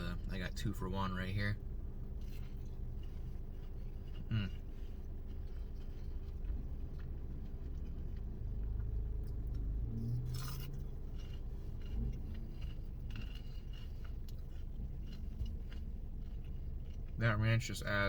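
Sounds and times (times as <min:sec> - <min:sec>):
car interior hum: 0:00.0 - 0:18.0
person chewing crunchy food: 0:00.2 - 0:18.0.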